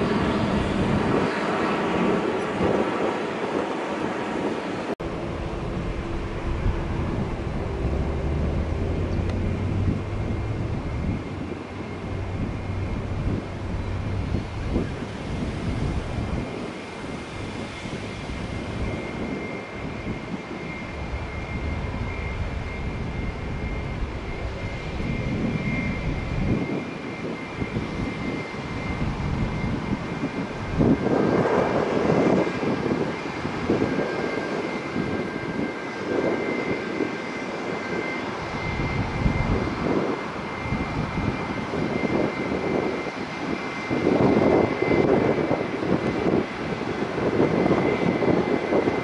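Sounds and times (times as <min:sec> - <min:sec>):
jet engines whining and roaring: 0:00.0 - 0:49.0.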